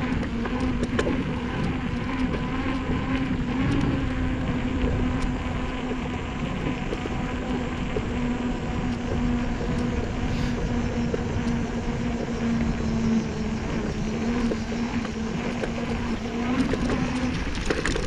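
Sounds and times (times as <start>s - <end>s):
bicycle road and wind noise: 0.0s - 18.0s
low hum: 0.0s - 18.0s.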